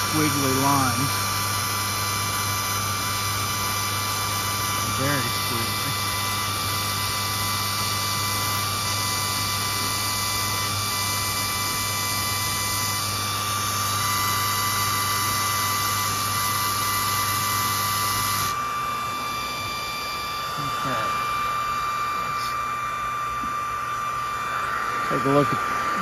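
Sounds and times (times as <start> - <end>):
stepper motors whining: 0.0 - 1.6, 2.6 - 26.0
air pump hum and hiss: 0.0 - 26.0.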